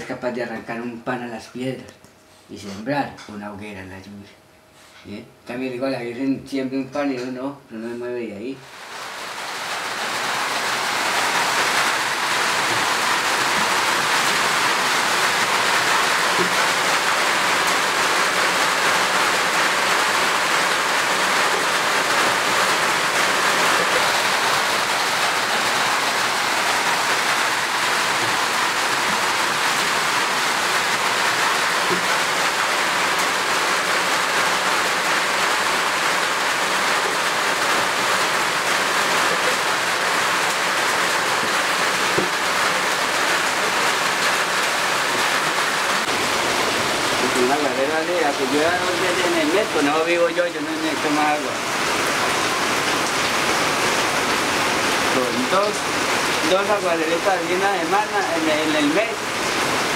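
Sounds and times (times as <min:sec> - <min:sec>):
rushing water: 0:08.6 - 0:59.9.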